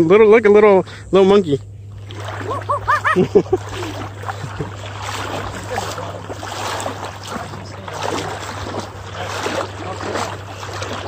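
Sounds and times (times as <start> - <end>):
steady low hum: 0.0 - 11.0
water sloshing and splashing: 1.6 - 11.0.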